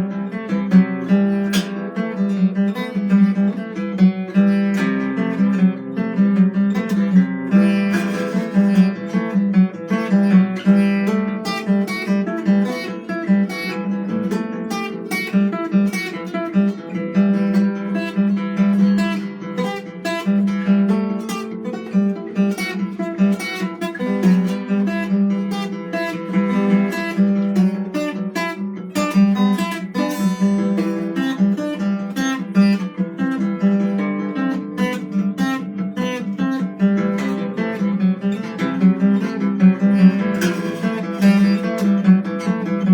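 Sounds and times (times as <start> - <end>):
acoustic guitar picking and strumming: 0.0 - 42.9.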